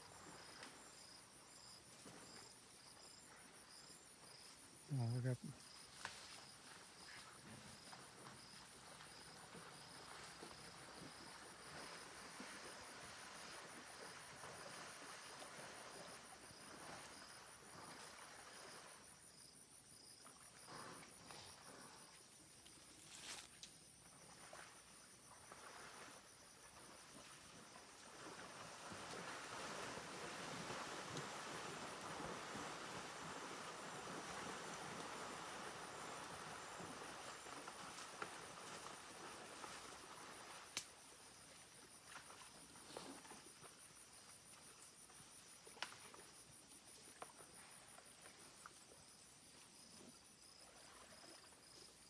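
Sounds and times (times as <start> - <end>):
forest ambience hiss: 0.0 - 52.0
insects chirping: 0.0 - 52.0.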